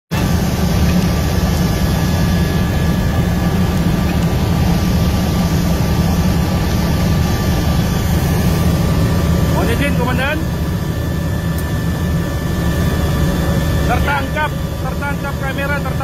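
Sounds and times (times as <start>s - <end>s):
helicopter drone inside cabin: 0.1s - 16.0s
faint steady whine: 0.2s - 16.0s.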